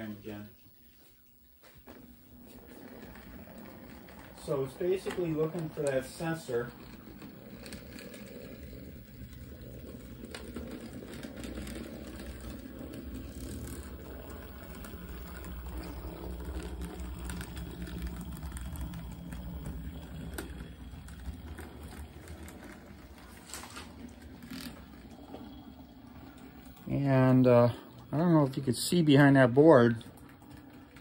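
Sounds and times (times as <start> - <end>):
model train rumbling on rails: 2.4 - 31.0.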